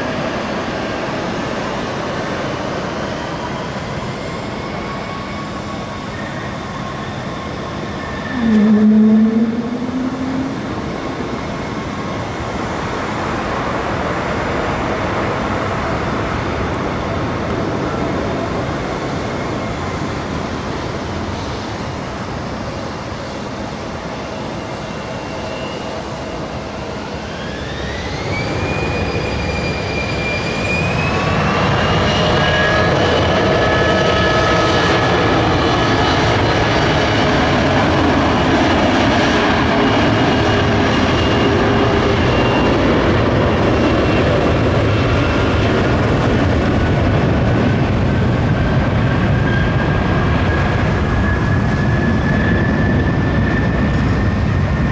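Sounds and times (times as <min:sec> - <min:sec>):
jet engines whining and roaring: 0:00.0 - 0:54.9.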